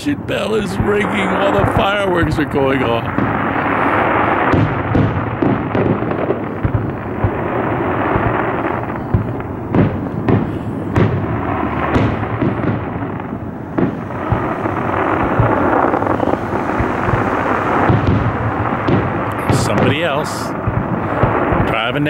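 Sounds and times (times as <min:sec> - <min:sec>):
distant fireworks rumble: 0:00.0 - 0:22.0
sharp firework bangs: 0:00.0 - 0:22.0.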